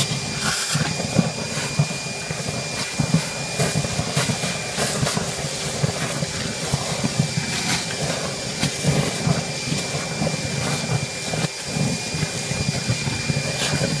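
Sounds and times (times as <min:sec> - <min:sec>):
hose slurping wet mud: 0:00.0 - 0:14.0
vacuum extractor whine and hiss: 0:00.0 - 0:14.0.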